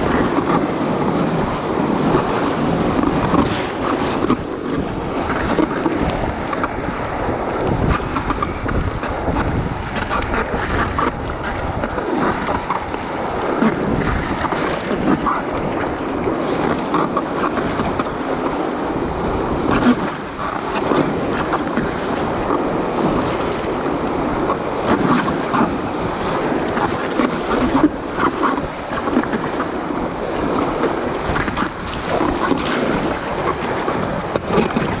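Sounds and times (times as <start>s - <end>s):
paddle splashes: 0.0s - 35.0s
water slapping a boat: 0.0s - 35.0s
whitewater rushing: 0.0s - 35.0s
wind buffeting microphone: 0.0s - 35.0s.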